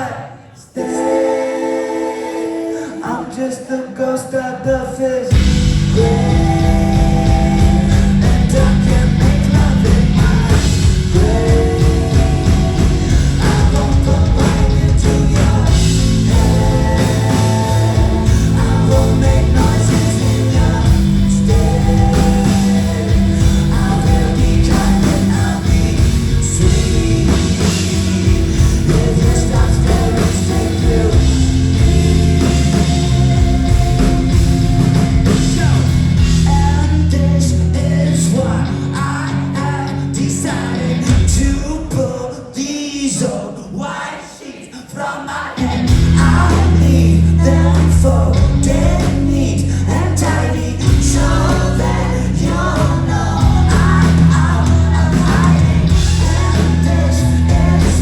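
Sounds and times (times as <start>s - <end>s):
live rock band with singing: 0.0s - 58.0s.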